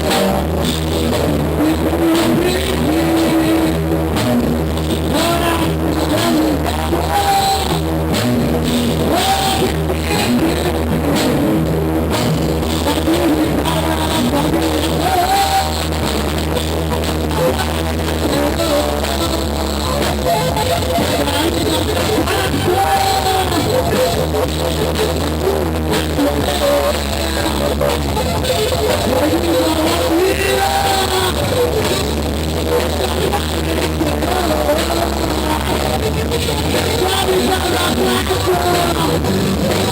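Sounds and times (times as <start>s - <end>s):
drum kit steady beat: 0.0s - 39.9s
rock band playing: 0.0s - 39.9s.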